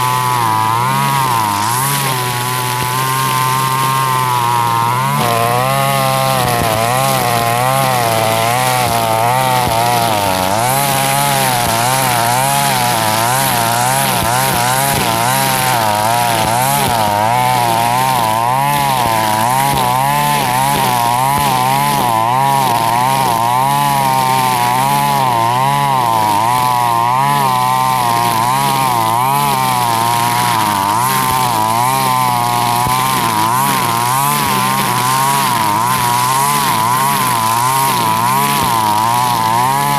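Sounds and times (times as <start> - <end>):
brush cutter engine running: 0.0 - 39.9
trimmer line cutting grass: 0.0 - 39.9.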